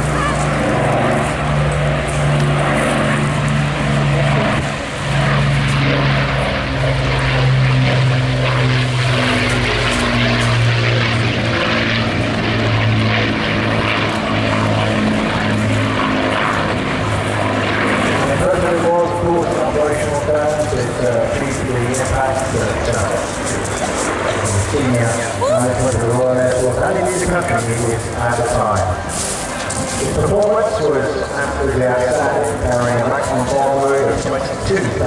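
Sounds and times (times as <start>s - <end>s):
propeller plane flying past: 0.0s - 35.0s.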